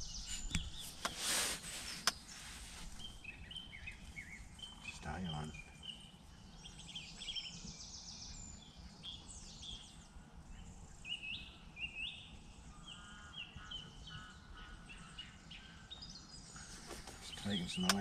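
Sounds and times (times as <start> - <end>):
low background rumble: 0.0 - 18.0
songbirds singing and calling: 0.0 - 18.0.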